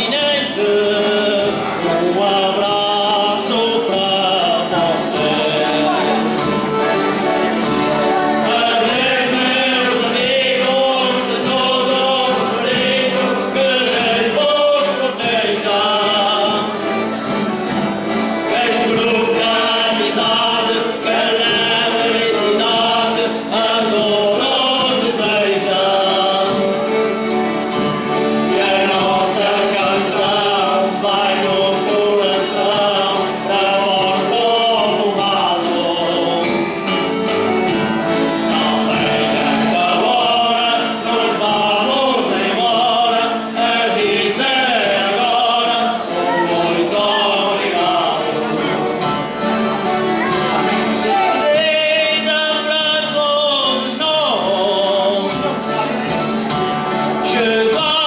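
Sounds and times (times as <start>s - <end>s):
accordion: 0.0s - 58.0s
acoustic guitars: 0.0s - 58.0s
mandolin: 0.0s - 58.0s
men singing together: 0.0s - 58.0s.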